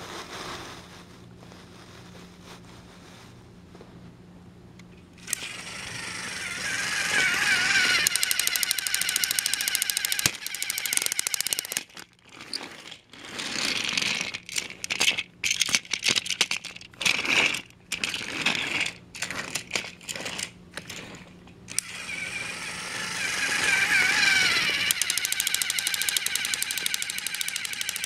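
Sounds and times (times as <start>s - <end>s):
toy train motor whine: 5.2s - 28.0s
toy train wheels clicking on track: 5.2s - 28.0s.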